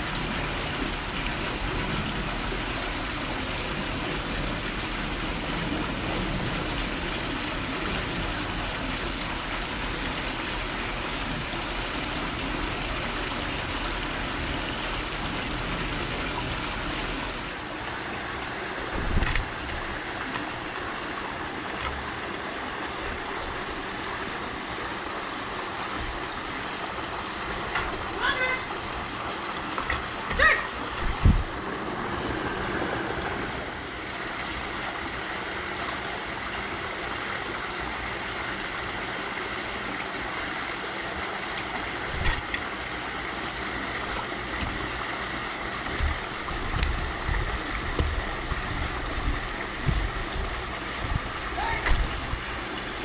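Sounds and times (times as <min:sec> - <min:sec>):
outdoor hiss: 0:00.0 - 0:53.0.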